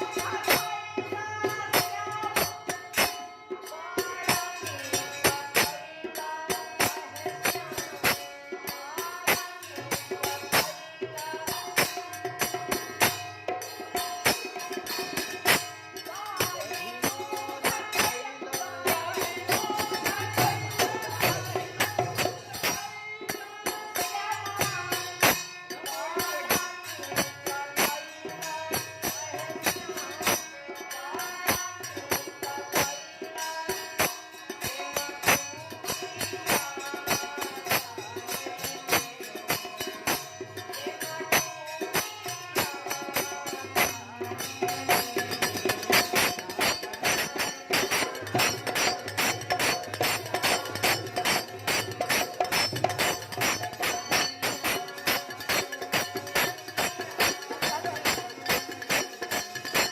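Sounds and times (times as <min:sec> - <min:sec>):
folk music with percussion: 0:00.0 - 0:59.9
jingling tambourine strokes: 0:00.0 - 0:59.9.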